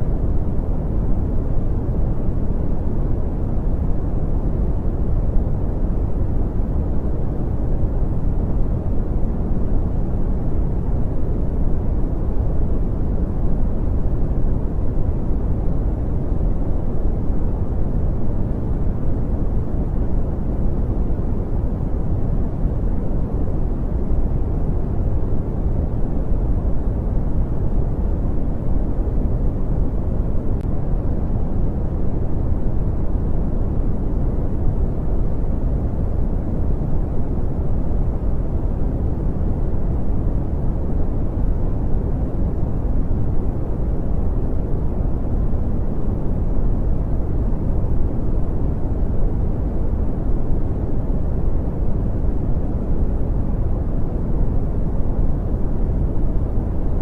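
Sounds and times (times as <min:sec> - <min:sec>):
deep rumbling brown noise: 0:00.0 - 0:57.0.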